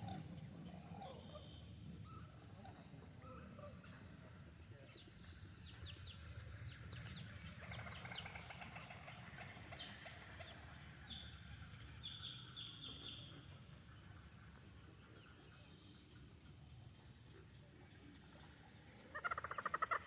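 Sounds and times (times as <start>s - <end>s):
birds chirping and chattering: 0.0s - 20.0s
low steady rumble: 0.0s - 20.0s.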